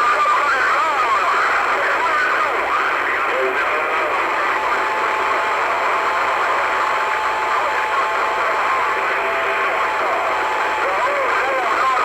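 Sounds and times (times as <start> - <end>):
faint garbled voices: 0.0 - 12.0
radio static hiss: 0.0 - 12.0.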